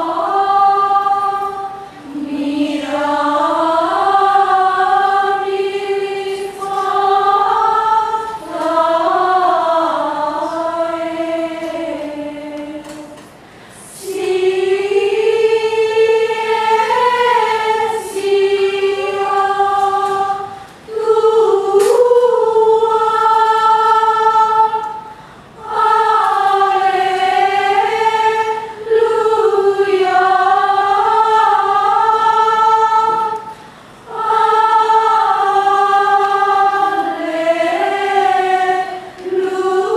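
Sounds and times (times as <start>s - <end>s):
women's choir chanting: 0.0s - 39.9s.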